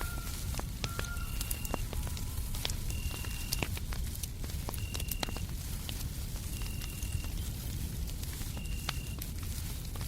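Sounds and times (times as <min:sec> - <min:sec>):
fire crackling and popping: 0:00.0 - 0:10.0.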